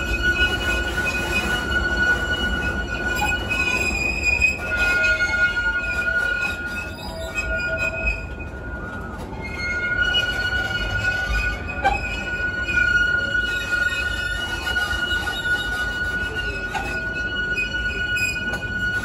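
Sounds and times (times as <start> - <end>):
high-pitched wheel squeal: 0.0 - 19.0
train cars rumbling over rails: 0.0 - 19.0.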